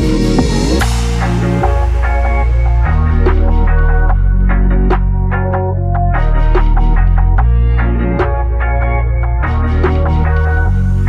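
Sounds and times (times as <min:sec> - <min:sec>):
plucked notes over bass line: 0:00.0 - 0:11.0.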